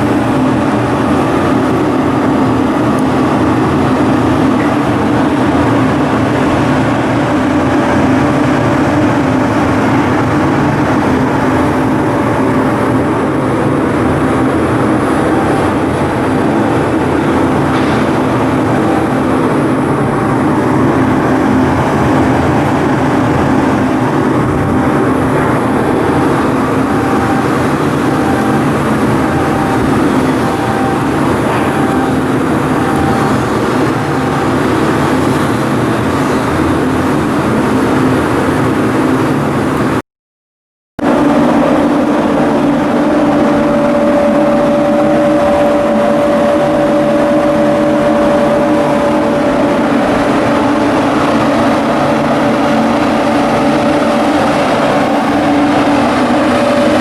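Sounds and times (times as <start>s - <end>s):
high engine whine: 0.0s - 40.0s, 41.0s - 57.0s
ship diesel engine running: 0.0s - 40.0s, 41.0s - 57.0s.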